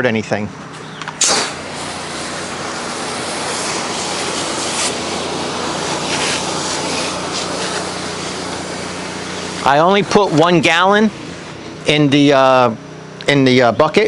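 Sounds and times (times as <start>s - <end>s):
pressure washer engine hum: 0.1s - 14.0s
pressure washer spray hissing: 1.2s - 13.1s.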